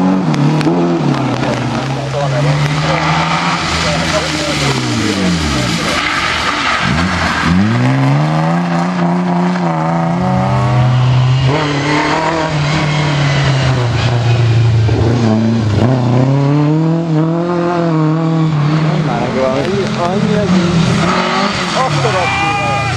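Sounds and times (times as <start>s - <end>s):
rally car engine revving: 0.0s - 22.9s.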